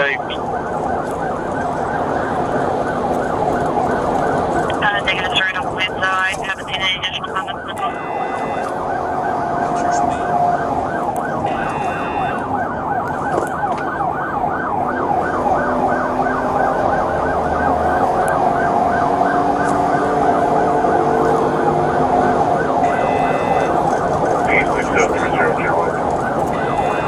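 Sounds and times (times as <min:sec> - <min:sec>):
police siren yelping: 0:00.0 - 0:27.0
road and engine noise: 0:00.0 - 0:27.0.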